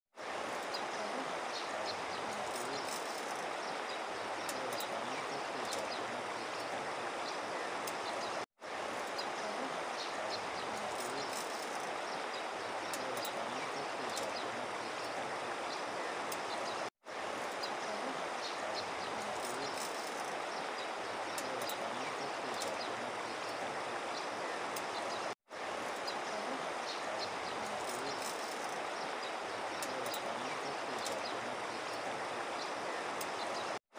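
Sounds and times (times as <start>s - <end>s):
river rushing over gravel: 0.2s - 33.8s.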